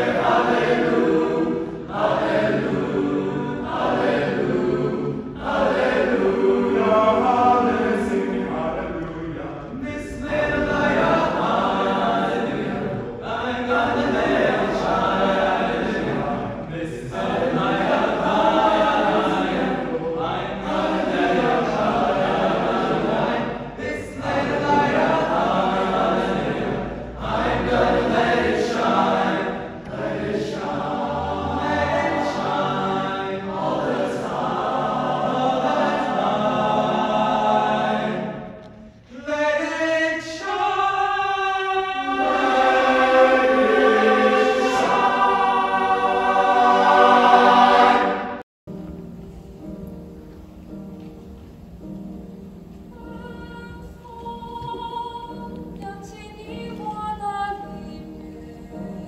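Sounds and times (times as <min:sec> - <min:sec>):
choir singing: 0:00.0 - 0:48.5, 0:52.5 - 0:59.0
quiet music: 0:00.0 - 0:59.0.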